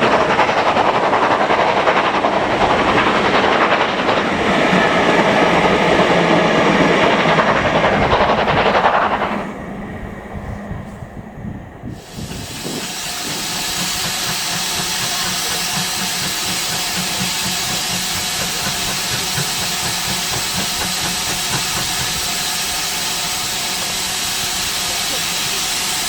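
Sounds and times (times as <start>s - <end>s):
steam engine venting steam: 0.0s - 26.0s.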